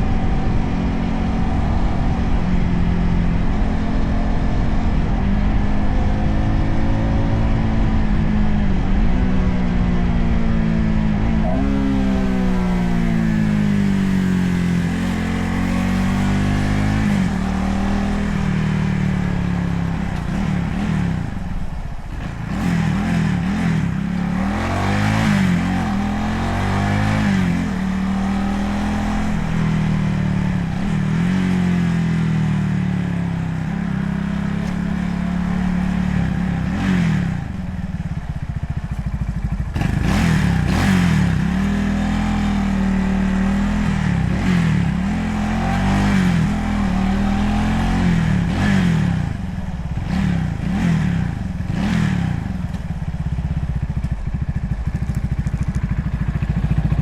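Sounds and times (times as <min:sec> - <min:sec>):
motorcycle engine revving: 0:00.0 - 0:57.0
road and wind noise: 0:00.0 - 0:57.0.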